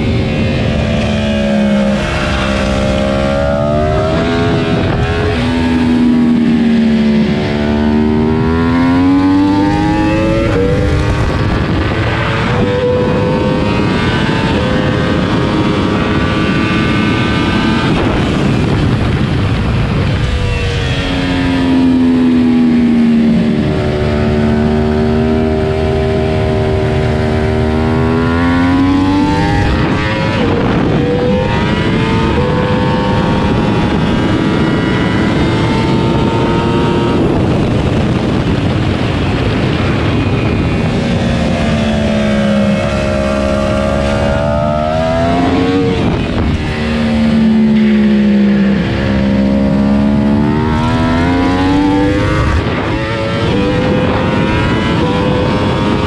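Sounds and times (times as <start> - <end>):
motorcycle engine revving: 0.0 - 56.0
wind rushing at speed: 0.0 - 56.0.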